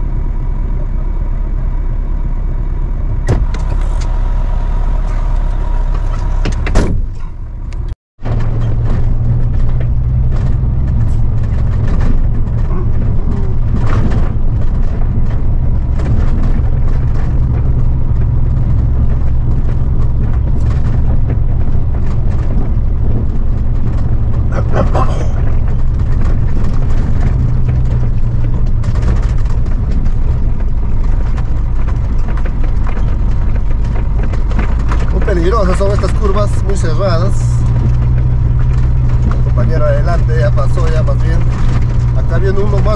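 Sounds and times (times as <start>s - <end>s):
truck diesel engine droning: 0.0s - 42.9s
truck rattling: 0.0s - 42.9s.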